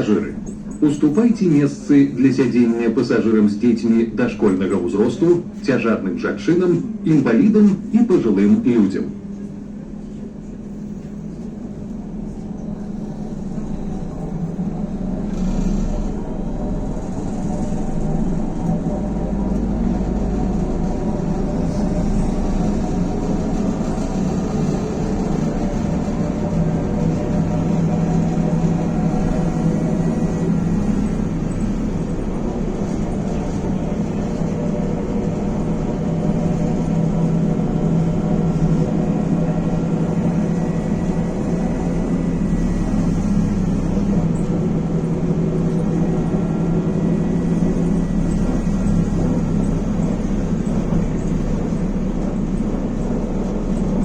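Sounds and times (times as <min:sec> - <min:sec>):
trolleybus running gear hum: 0:00.0 - 0:54.0.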